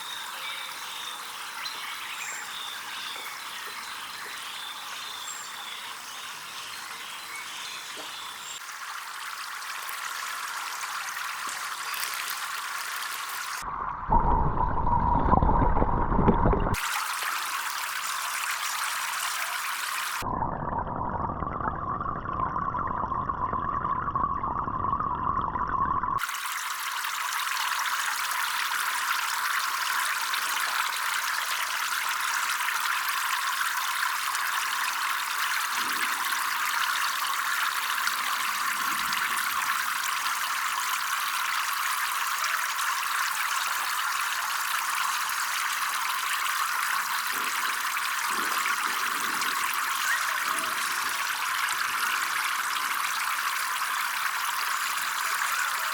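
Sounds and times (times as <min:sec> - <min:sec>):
running water trickling and splashing: 0:00.0 - 0:13.8, 0:15.6 - 0:20.3, 0:26.2 - 0:55.9.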